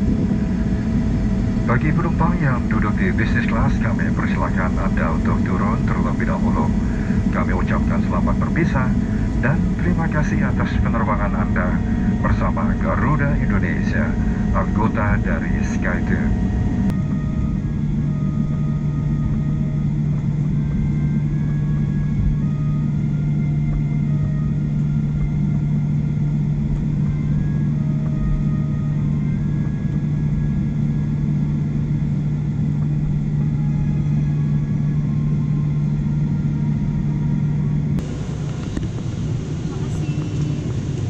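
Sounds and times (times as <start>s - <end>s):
airplane cabin rumble: 0.0s - 41.0s
constant deep hum: 0.0s - 41.0s.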